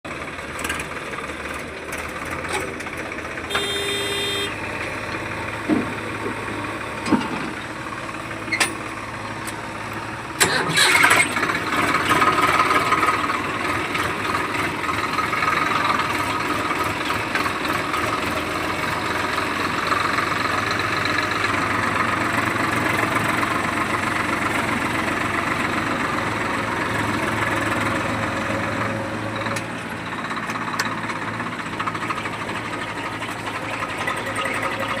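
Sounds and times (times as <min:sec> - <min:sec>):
diesel engine running: 0:00.1 - 0:35.0.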